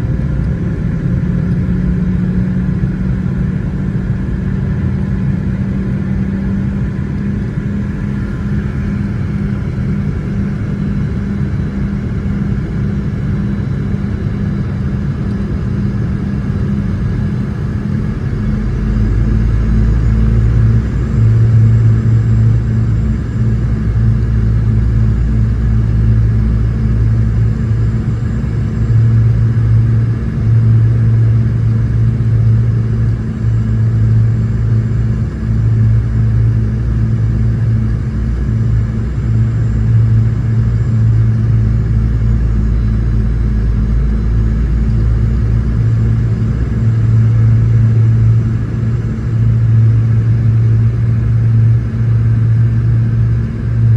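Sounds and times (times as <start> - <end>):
aircraft cabin engine rumble: 0.0 - 53.9
faint high whine: 4.1 - 53.9.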